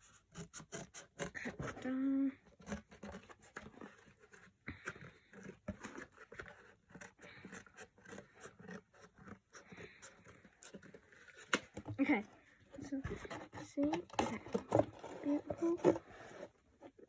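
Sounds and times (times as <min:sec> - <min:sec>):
scissors cutting cardboard: 0:00.0 - 0:12.2, 0:13.0 - 0:16.5.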